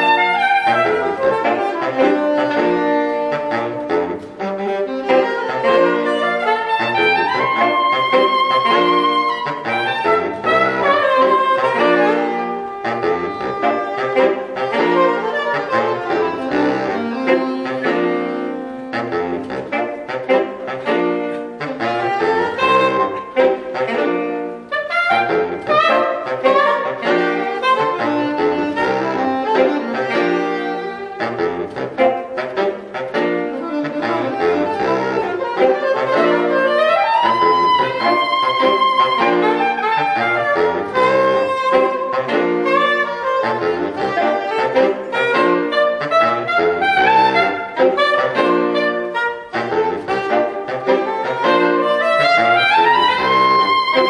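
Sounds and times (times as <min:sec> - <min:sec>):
saxophone quartet playing: 0:00.0 - 0:54.0.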